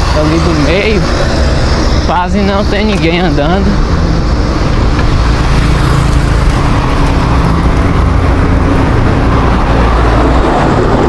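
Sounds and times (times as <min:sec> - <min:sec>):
car engine running: 0:00.0 - 0:11.0
traffic noise: 0:00.0 - 0:11.0.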